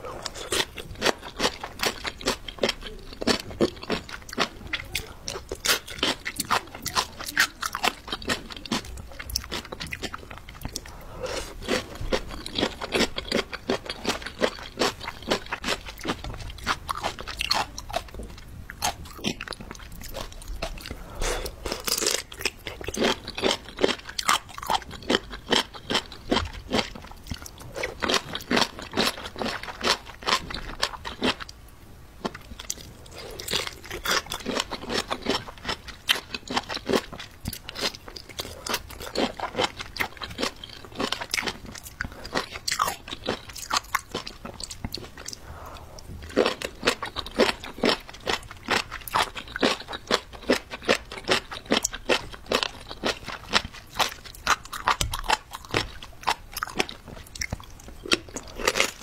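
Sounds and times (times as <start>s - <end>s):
crunching and chewing: 0.0s - 31.6s, 32.2s - 59.0s.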